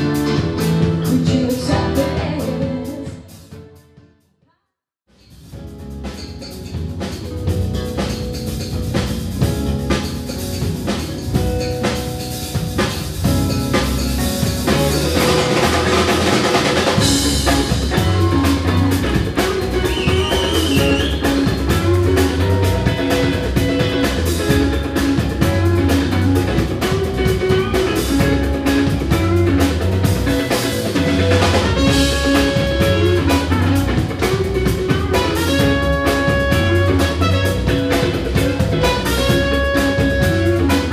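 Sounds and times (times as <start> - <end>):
drum kit beat: 0.0 - 3.8, 5.2 - 40.9
live band music: 0.0 - 4.0, 5.3 - 40.9.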